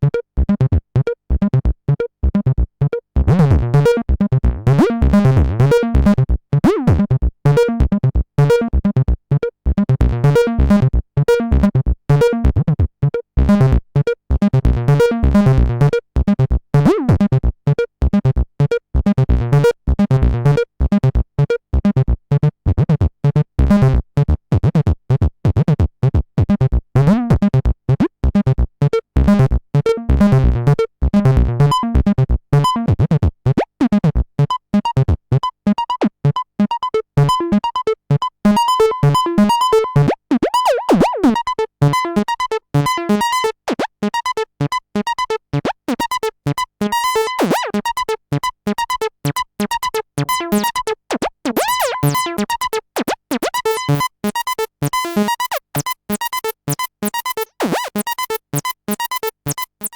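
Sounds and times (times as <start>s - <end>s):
staccato bass synthesizer pattern: 0.0s - 59.9s.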